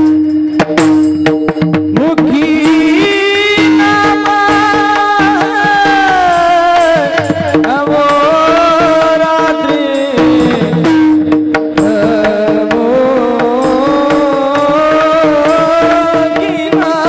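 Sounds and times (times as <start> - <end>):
hand drum beats: 0.0 - 17.0
man singing long sliding notes: 2.0 - 17.0.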